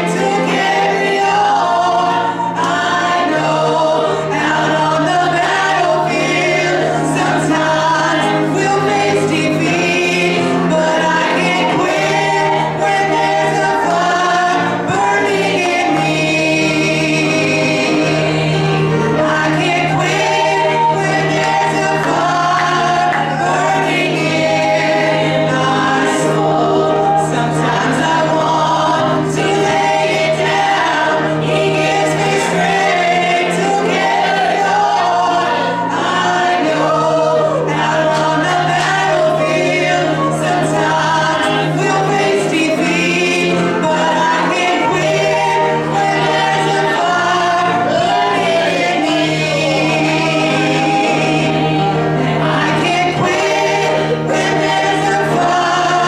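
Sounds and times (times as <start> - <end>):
group singing a gospel song: 0.0 - 56.0.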